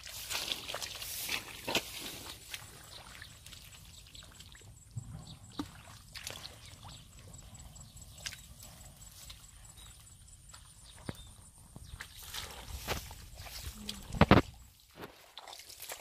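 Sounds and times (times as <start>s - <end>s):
splashing and squelching in mud water: 0.0s - 16.0s.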